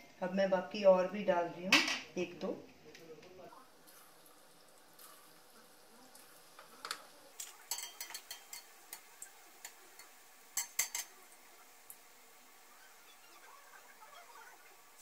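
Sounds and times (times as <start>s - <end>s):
faint frying sizzle: 0.0s - 15.0s.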